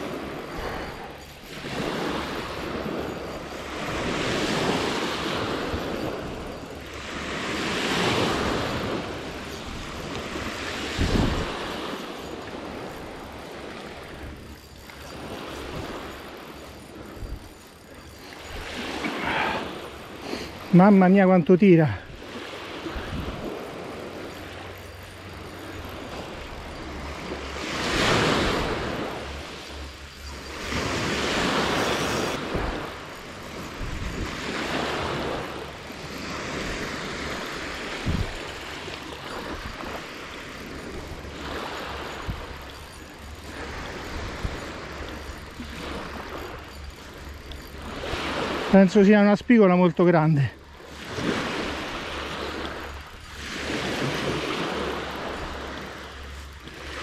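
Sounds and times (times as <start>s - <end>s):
waves washing onto beach: 0.0s - 57.0s.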